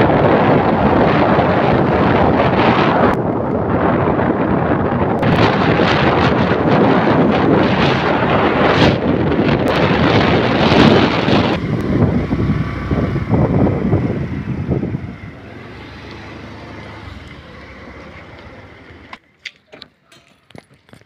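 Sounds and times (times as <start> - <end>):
wind rushing over microphone: 0.0 - 19.2.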